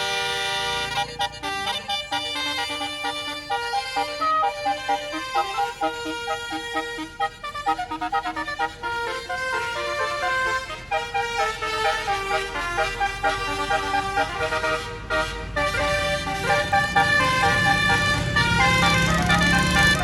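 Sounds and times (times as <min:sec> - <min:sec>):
low engine rumble: 0:00.0 - 0:20.0
multi-note bus horn melody: 0:00.0 - 0:20.0.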